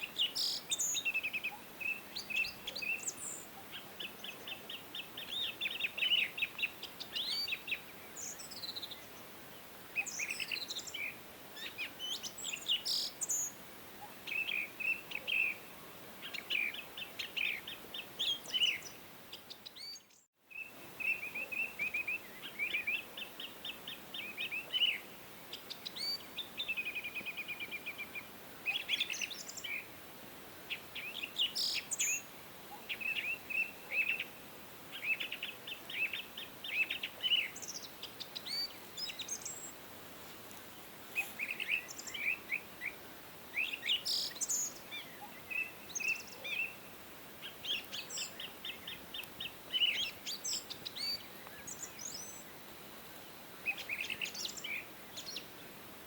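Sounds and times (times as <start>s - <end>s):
songbirds singing: 0.0s - 30.0s, 30.6s - 39.8s, 40.5s - 55.8s
faint steady hiss: 0.0s - 56.0s.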